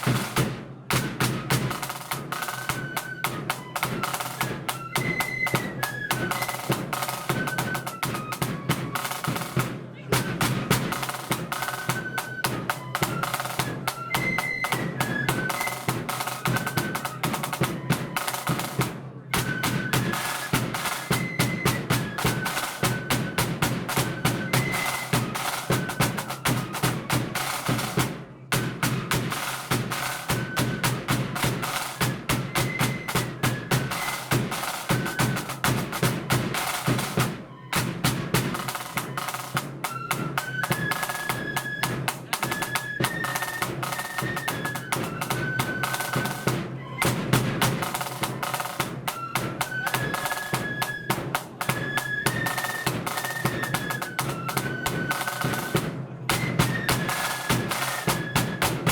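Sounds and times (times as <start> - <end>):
high flute melody: 0.0 - 58.9
snare drum rolls: 0.0 - 58.9.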